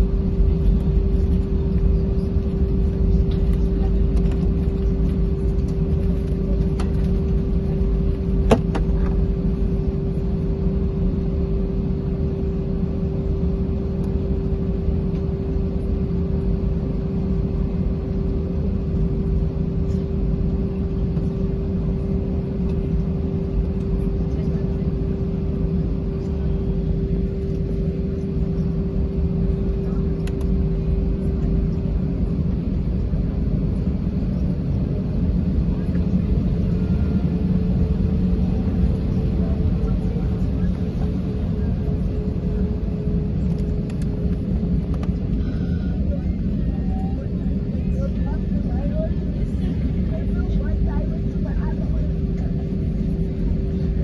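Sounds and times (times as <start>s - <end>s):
aircraft cabin rumble: 0.0s - 54.0s
steady hum: 0.0s - 54.0s.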